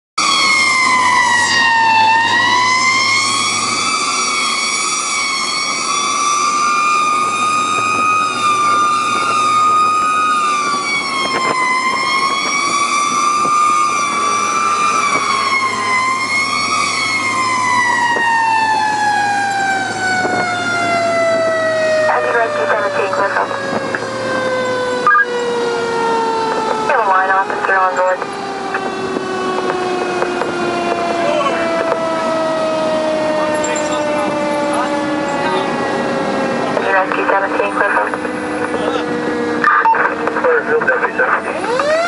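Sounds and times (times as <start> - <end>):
fire engine siren wailing: 0.2 - 42.0
truck engine hum: 0.2 - 42.0.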